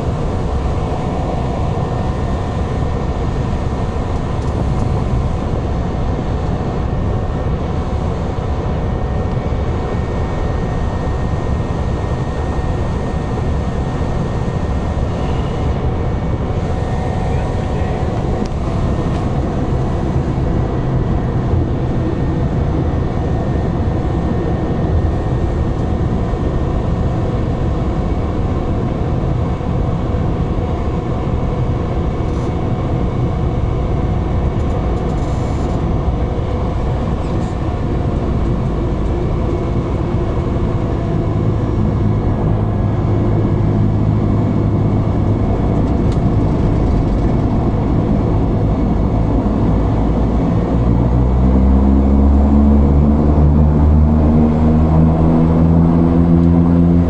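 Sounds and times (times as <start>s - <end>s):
turboprop engine drone in cabin: 0.0s - 57.0s.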